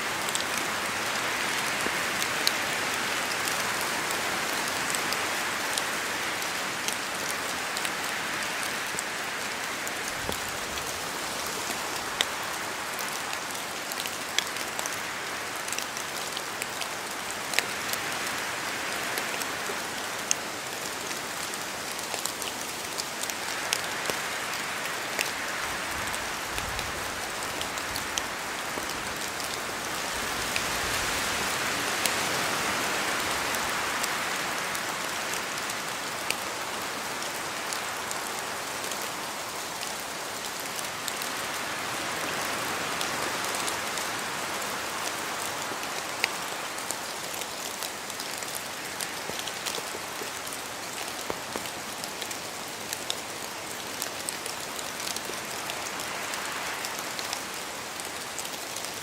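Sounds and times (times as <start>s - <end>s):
steady rain: 0.0s - 59.0s
wind rushing through leaves: 0.0s - 59.0s.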